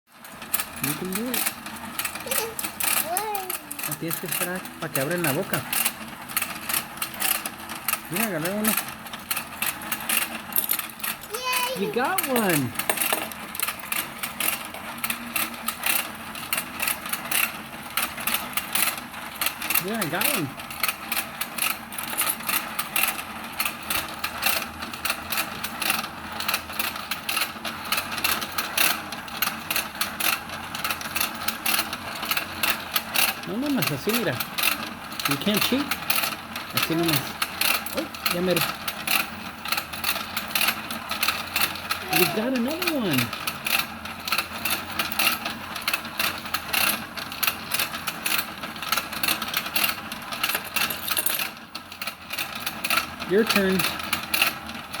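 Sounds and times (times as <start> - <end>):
rapid plastic clicks: 0.2 - 55.0
small motor whirring: 0.3 - 49.2, 53.2 - 55.0.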